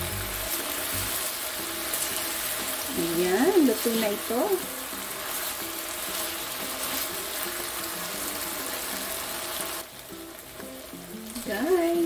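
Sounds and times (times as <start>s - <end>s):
chicken sizzling in a wok: 0.0s - 12.0s
soft background music: 0.0s - 12.0s.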